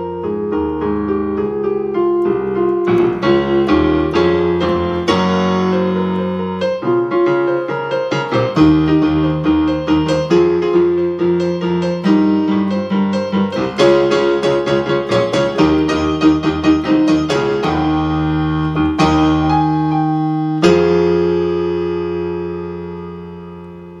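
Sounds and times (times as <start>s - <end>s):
piano gospel chords: 0.0s - 24.0s.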